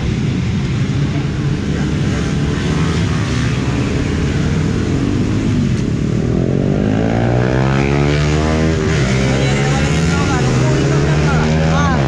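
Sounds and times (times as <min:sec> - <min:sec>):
motorcycle engine revving: 0:01.2 - 0:12.0.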